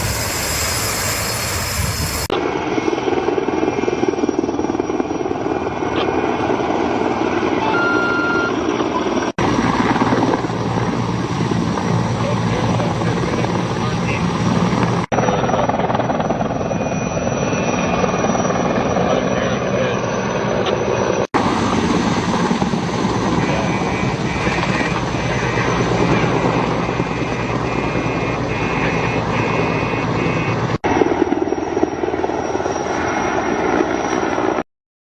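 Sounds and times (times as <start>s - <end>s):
helicopter rotor and turbine: 0.0s - 34.6s.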